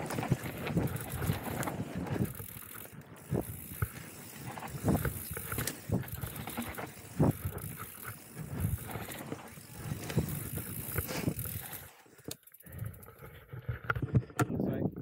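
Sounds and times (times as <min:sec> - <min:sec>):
bike tyres on loose dirt: 0:00.0 - 0:14.7
bike rattling: 0:00.0 - 0:15.0.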